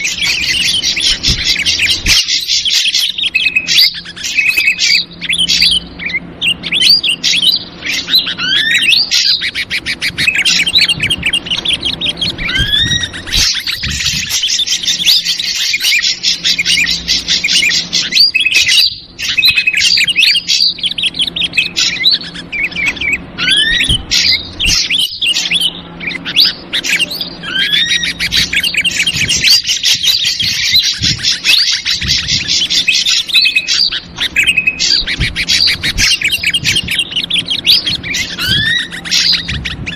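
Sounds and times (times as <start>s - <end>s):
bulbuls chattering: 0.0s - 39.9s
drongo calls: 0.0s - 39.9s.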